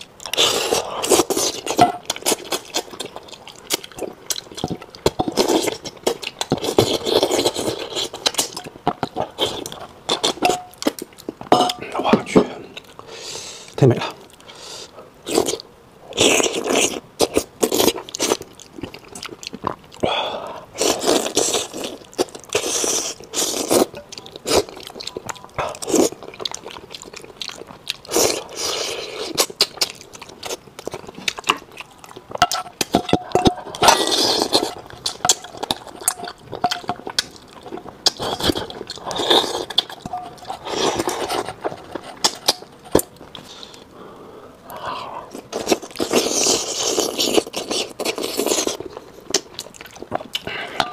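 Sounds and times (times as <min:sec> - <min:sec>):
wet chewing and slurping: 0:00.0 - 0:11.8, 0:14.3 - 0:20.1, 0:20.8 - 0:43.9, 0:44.7 - 0:50.9.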